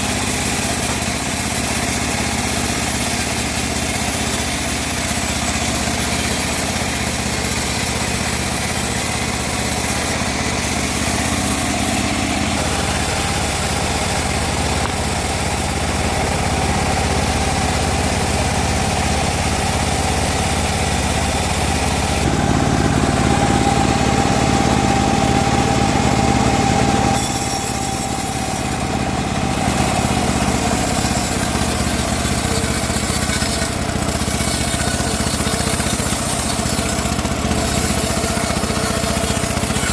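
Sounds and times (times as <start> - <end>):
band sawmill sawing wood: 0.0 - 39.9.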